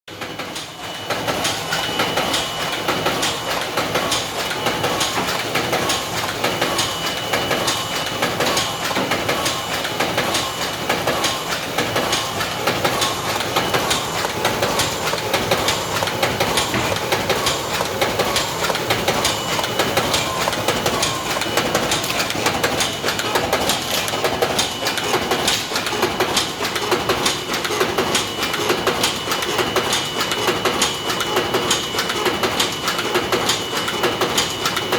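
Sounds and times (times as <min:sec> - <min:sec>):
folding machine clacking: 0:00.1 - 0:34.9
machine high-pitched whine: 0:00.1 - 0:34.9.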